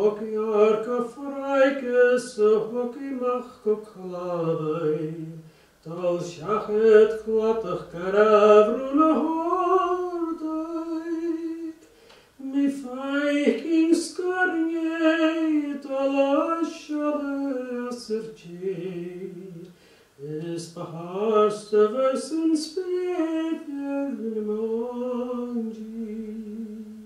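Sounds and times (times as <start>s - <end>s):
man singing solo: 0.0s - 11.8s, 12.4s - 27.0s.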